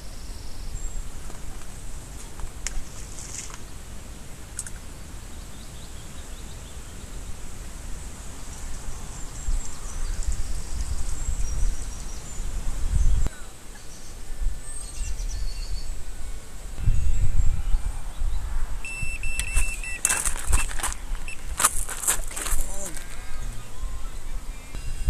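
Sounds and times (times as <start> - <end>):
wind buffeting microphone: 0.0 - 13.3, 14.3 - 25.0
birds chirping faintly: 0.0 - 25.0.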